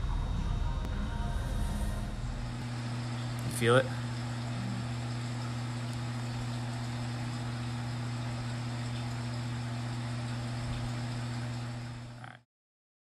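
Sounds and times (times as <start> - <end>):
steady machine hum: 0.0 - 12.4.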